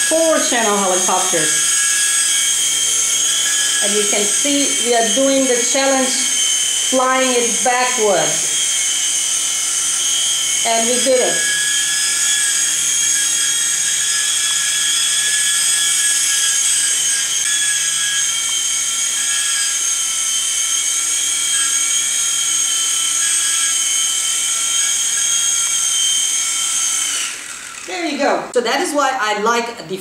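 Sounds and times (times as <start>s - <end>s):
rc helicopter rotor whine: 0.0s - 28.6s.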